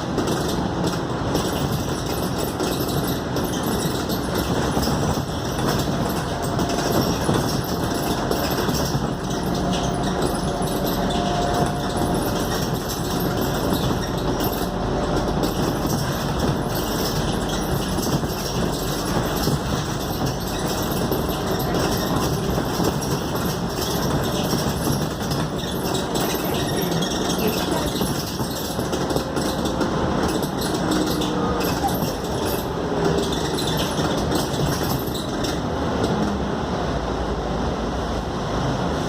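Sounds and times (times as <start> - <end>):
fine rattling: 0.0 - 35.6
bus engine and road noise: 0.0 - 39.0.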